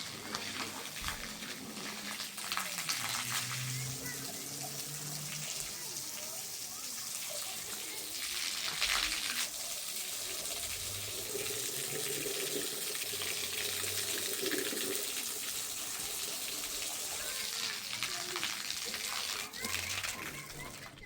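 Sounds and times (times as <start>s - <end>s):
tap water running: 0.0s - 21.0s.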